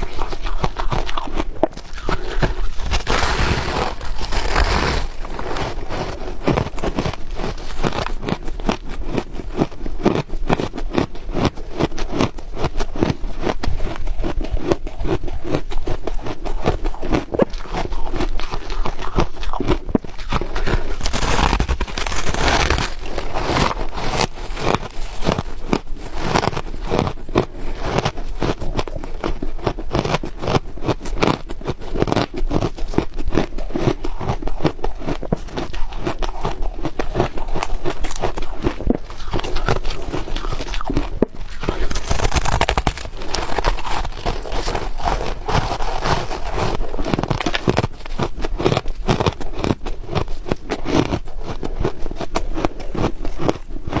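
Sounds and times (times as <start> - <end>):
ice being crunched: 0.0 - 54.0.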